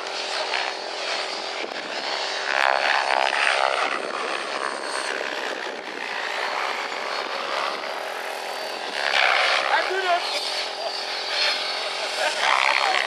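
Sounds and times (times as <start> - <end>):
model helicopter engine and rotor: 0.0 - 13.0.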